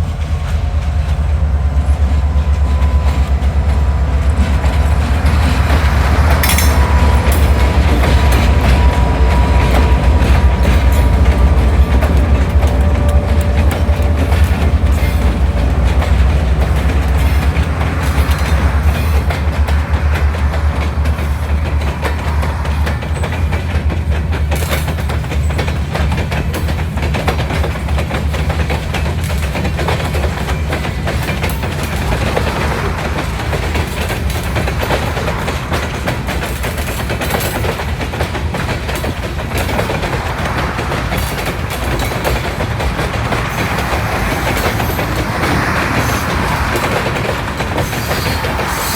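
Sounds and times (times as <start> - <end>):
freight train rolling past: 0.0 - 48.9
wheels clicking over rail joints: 0.0 - 48.9.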